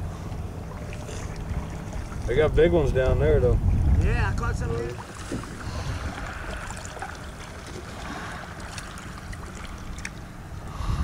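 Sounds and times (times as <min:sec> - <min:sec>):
wind rumble on microphone: 0:00.0 - 0:11.0
paddle swishing water: 0:00.1 - 0:02.5, 0:03.8 - 0:10.4.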